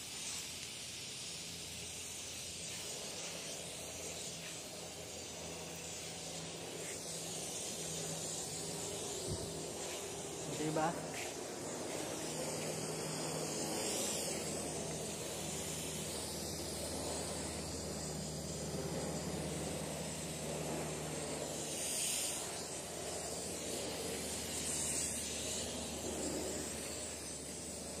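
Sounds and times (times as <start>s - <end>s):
hose water spraying on plants: 0.0s - 28.0s
low steady hum: 2.9s - 28.0s.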